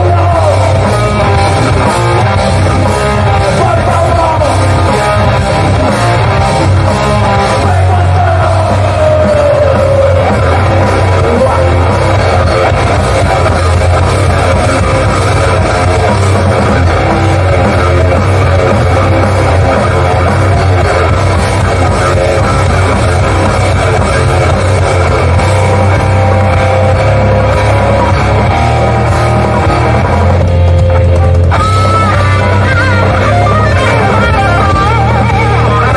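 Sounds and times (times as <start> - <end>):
hardcore band playing live: 0.0 - 35.9.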